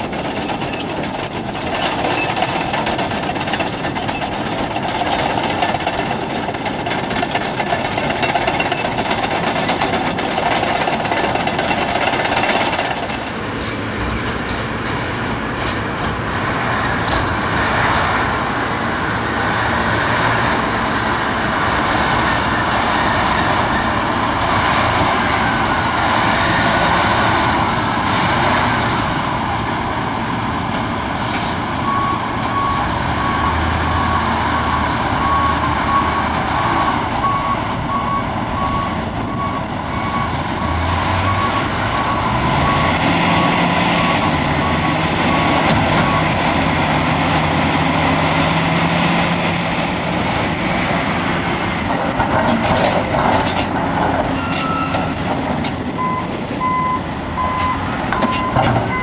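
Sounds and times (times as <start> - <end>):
bulldozer diesel engine running: 0.0 - 59.0
dump truck diesel engine driving: 0.0 - 59.0.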